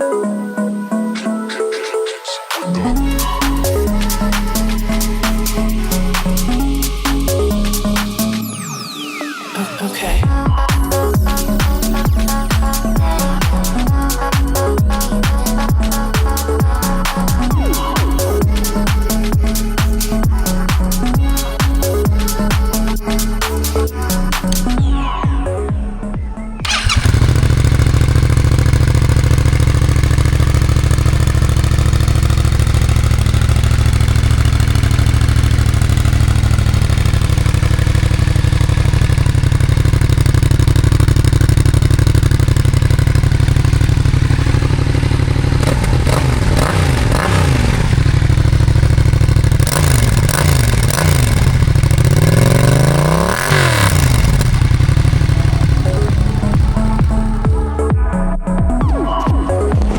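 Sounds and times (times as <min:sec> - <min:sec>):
motorcycle engine revving: 0:02.8 - 0:08.5, 0:10.8 - 0:24.8, 0:26.6 - 0:57.9
motorcycle engine idling: 0:02.9 - 0:08.4, 0:10.3 - 0:24.9, 0:25.8 - 0:58.0.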